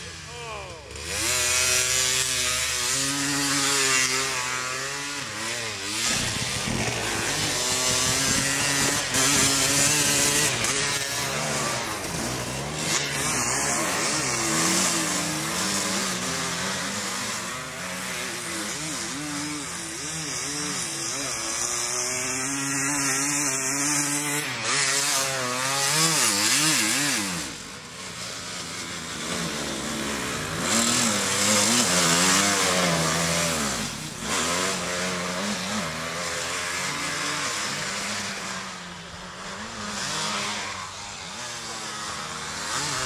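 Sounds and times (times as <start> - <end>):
engine revving: 0.0 - 43.0.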